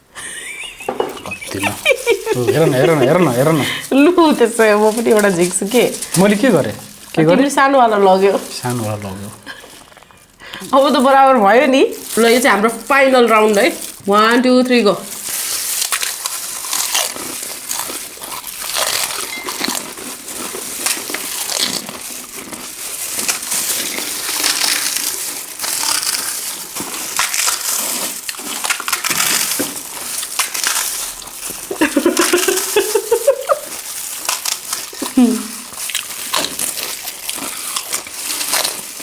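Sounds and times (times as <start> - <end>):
crunchy food being chewed: 0.5 - 39.0.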